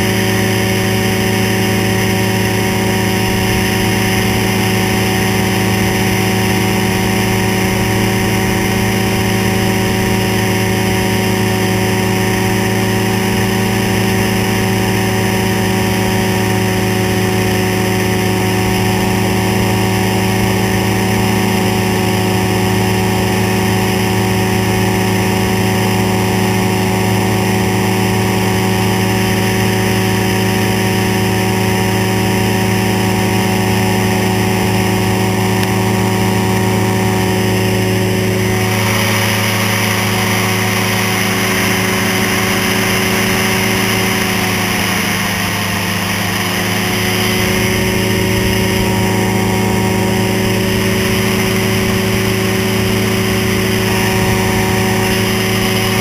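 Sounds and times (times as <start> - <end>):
aircraft engine running: 0.0 - 56.0.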